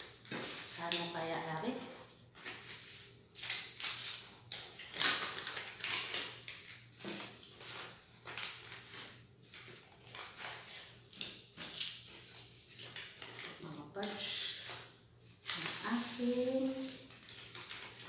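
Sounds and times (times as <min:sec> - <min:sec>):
paper banknotes rustling: 0:01.8 - 0:18.0.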